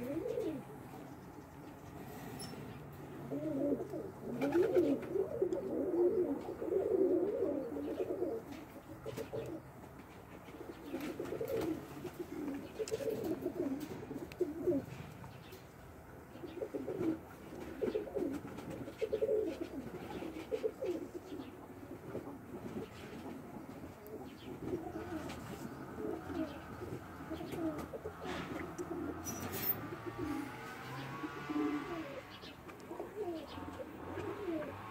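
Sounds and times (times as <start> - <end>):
pigeon cooing: 0.0 - 0.9, 2.1 - 9.8, 10.5 - 15.0, 16.4 - 34.9.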